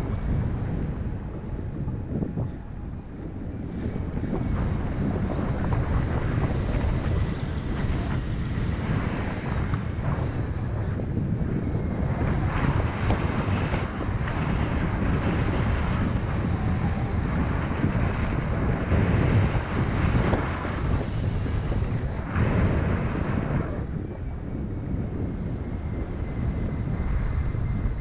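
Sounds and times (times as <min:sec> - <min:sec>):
wind roar over microphone: 0:00.0 - 0:28.0.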